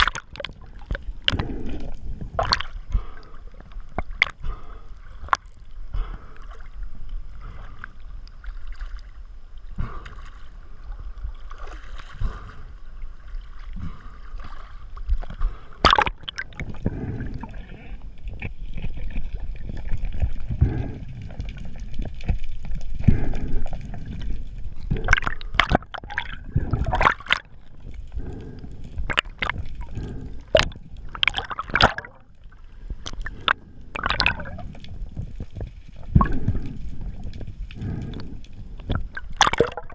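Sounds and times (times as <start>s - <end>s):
low underwater rumble: 0.0s - 39.9s
water sloshing and gurgling: 0.0s - 39.9s.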